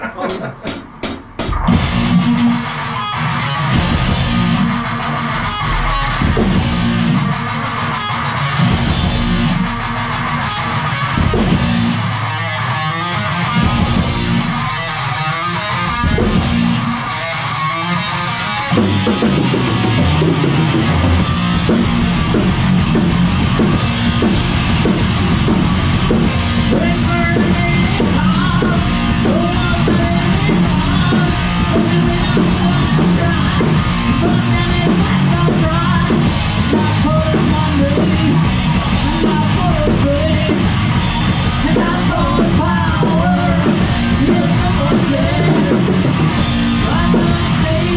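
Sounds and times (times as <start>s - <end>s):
distorted electric guitar riffing: 0.0s - 47.9s
drums: 0.0s - 47.9s.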